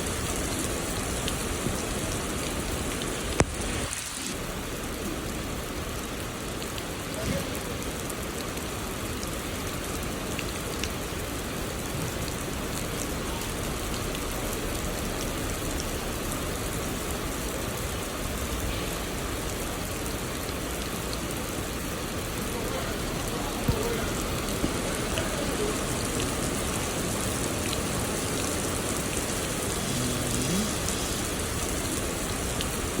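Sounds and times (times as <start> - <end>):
heavy rain hissing: 0.0 - 33.0.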